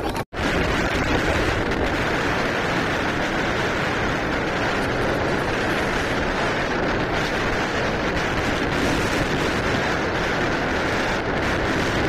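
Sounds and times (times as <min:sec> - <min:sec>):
motorcycle road noise: 0:00.0 - 0:12.0
wind blowing over microphone: 0:00.0 - 0:12.0.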